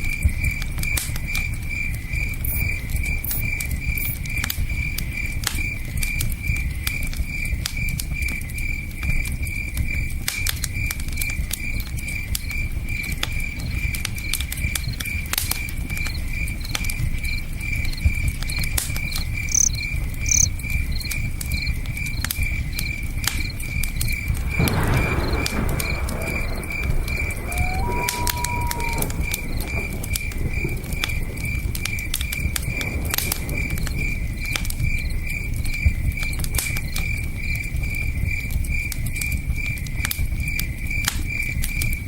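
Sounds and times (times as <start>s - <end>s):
campfire crackling: 0.0s - 42.0s
cricket chirping: 0.0s - 42.0s.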